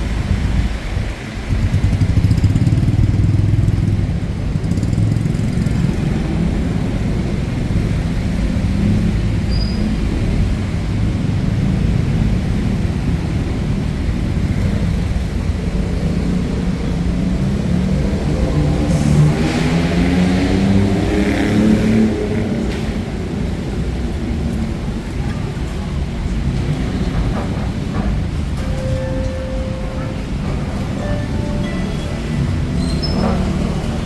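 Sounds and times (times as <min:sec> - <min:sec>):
vehicle engines running: 0:00.0 - 0:34.0.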